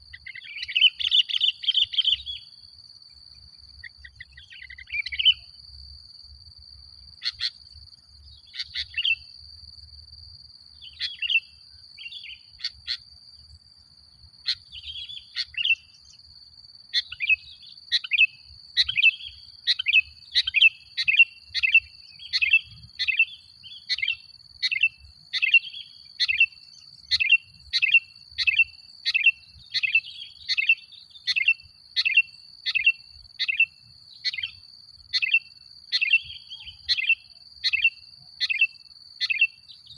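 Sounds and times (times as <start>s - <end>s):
bird chirping: 0.0s - 6.0s, 6.7s - 39.9s.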